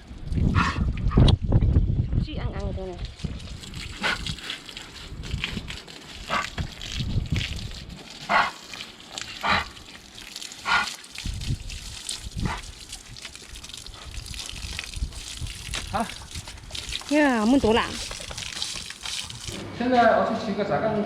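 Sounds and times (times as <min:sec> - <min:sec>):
water splashing on dog: 0:02.8 - 0:19.7.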